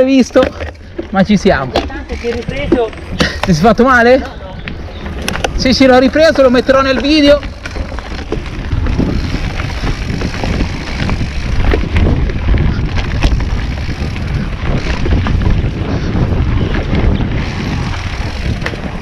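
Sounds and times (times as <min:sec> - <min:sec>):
bike rattling over rough trail: 0:00.0 - 0:19.0
wind buffeting microphone: 0:00.4 - 0:19.0.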